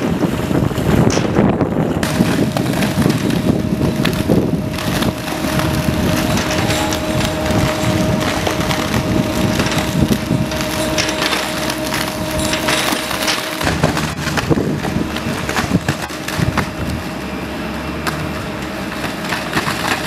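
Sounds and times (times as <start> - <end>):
conveyor whine: 0.0 - 20.0
wet spoil clattering and splattering: 0.6 - 20.0.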